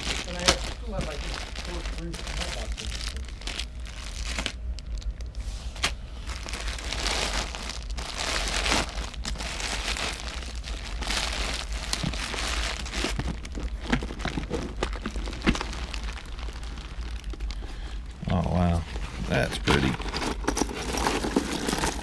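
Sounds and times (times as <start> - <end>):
hands rummaging through necklaces: 0.0 - 4.6, 5.7 - 17.6, 18.8 - 22.0.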